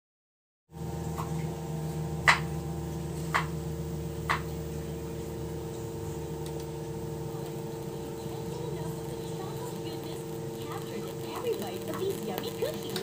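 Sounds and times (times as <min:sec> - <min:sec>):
television buzzing hum: 0:00.7 - 0:13.0.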